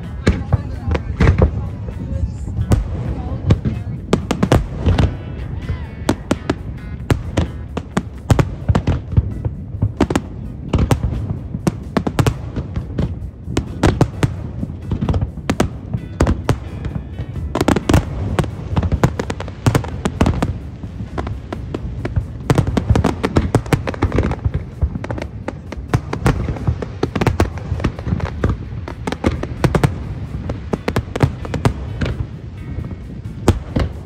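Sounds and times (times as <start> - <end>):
firework shell bursts: 0.0 - 34.0.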